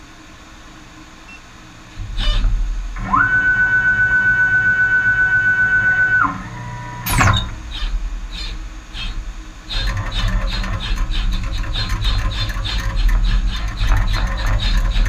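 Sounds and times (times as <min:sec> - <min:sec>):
low hum: 0:00.0 - 0:15.0
motor whine: 0:01.0 - 0:15.0.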